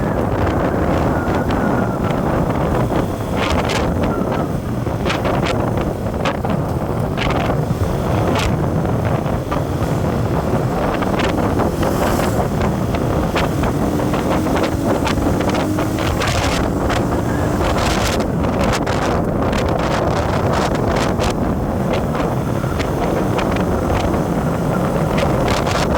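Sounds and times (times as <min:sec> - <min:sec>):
vehicle road and engine noise: 0:00.0 - 0:25.9
wind buffeting microphone: 0:00.0 - 0:25.9.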